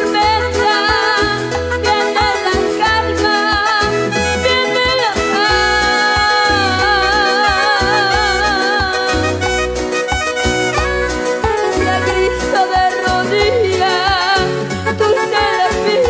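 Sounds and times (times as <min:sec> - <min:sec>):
bass notes: 0:00.0 - 0:16.0
electronic keyboard melody: 0:00.0 - 0:16.0.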